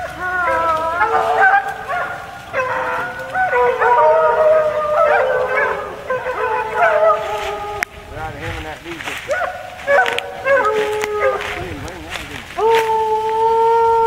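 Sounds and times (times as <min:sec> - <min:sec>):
hounds baying and howling: 0:00.0 - 0:14.0.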